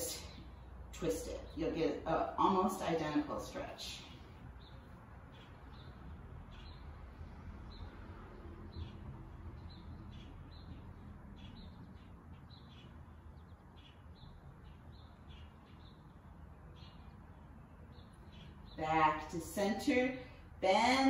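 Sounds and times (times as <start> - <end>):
faint bird chirping: 0.0 - 21.0
low room noise rumble: 0.0 - 21.0.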